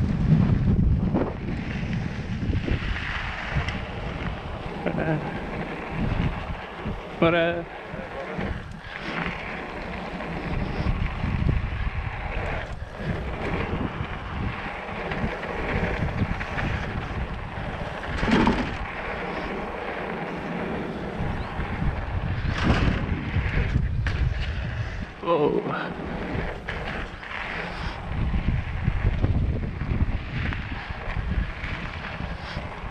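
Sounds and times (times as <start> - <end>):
bike bumps: 0.0 - 32.9
bike tyre roll and rattle: 0.0 - 32.9
wind rushing over microphone: 0.0 - 32.9.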